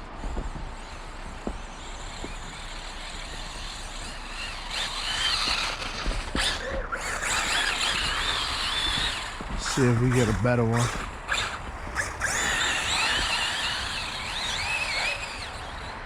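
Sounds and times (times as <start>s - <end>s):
electric motor whining: 0.0s - 16.0s
wheels spinning on snow: 0.0s - 16.0s.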